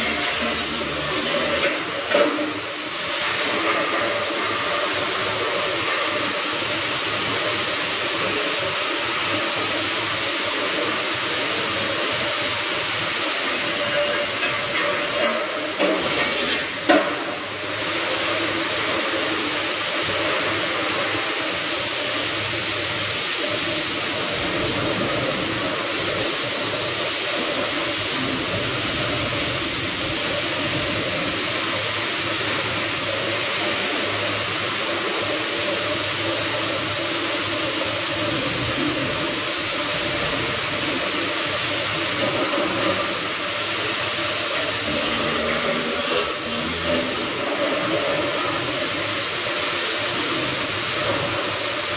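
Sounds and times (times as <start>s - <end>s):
arc welding hiss: 0.0s - 51.9s.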